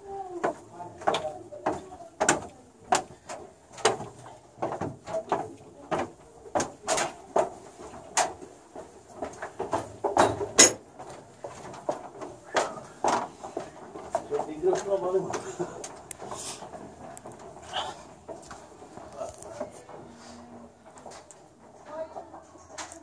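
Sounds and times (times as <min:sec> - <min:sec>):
footsteps on steel grating: 0:00.0 - 0:23.0.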